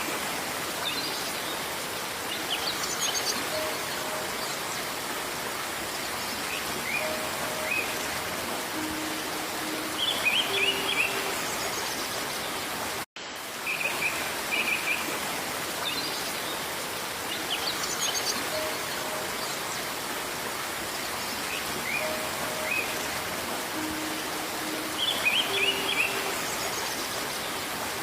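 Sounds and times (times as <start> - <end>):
hiss of rain or running water: 0.0 - 28.0
birds chirping: 0.8 - 13.0, 15.8 - 28.0.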